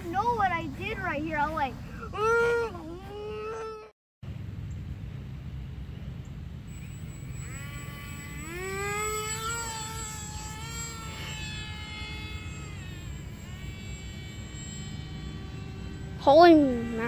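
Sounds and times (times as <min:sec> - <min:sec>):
model airplane motor whining: 0:00.0 - 0:03.9, 0:06.3 - 0:17.0.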